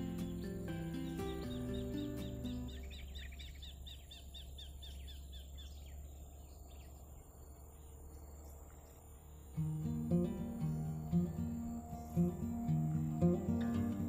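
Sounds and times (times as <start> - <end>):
bird chirping rapidly: 0.0 - 14.0.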